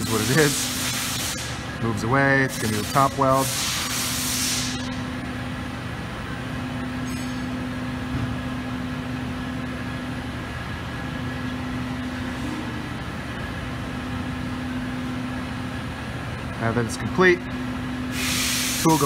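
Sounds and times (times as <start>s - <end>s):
welding arc hum and hiss: 0.0s - 19.0s.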